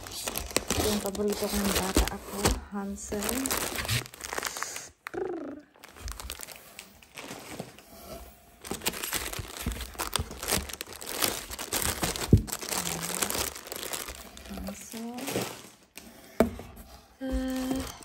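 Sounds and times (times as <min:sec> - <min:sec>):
plastic wrapping crinkling: 0:00.0 - 0:16.0, 0:17.2 - 0:18.0.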